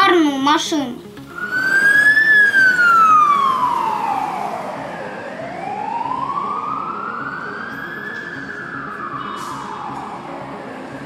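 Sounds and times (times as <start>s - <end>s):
siren wailing: 1.3s - 11.0s.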